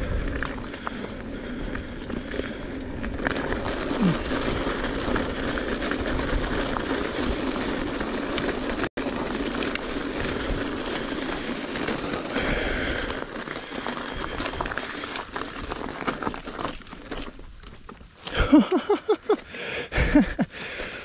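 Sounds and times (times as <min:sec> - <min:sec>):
mountain bike rattling over trail: 0:00.0 - 0:21.0.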